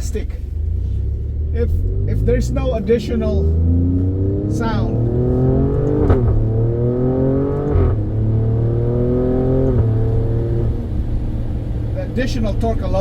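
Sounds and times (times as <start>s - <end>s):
gearbox upshifts: 0.0s - 10.8s
car engine accelerating: 0.0s - 13.0s.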